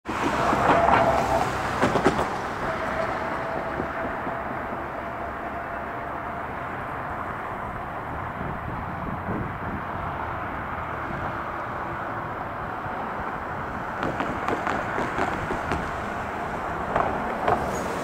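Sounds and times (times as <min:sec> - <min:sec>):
distant freight train: 0:00.1 - 0:18.0
distant road traffic rumble: 0:00.1 - 0:18.0.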